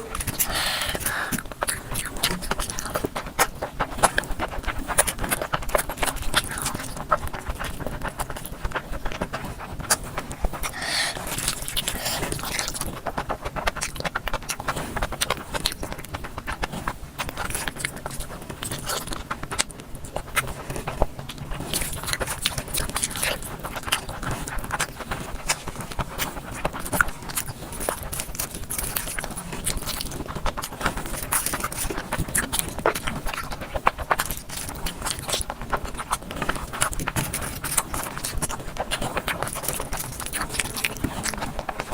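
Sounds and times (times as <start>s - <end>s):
close-miked chewing: 0.0s - 41.9s.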